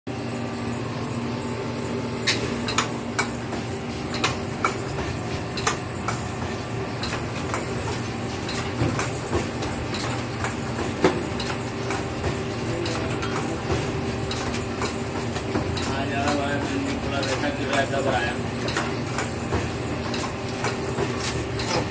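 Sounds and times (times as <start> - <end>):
machine humming: 0.1 - 21.9.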